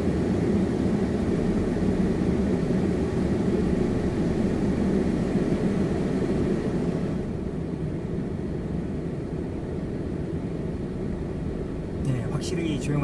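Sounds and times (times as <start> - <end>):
climate-control fan air rush: 0.0 - 13.0.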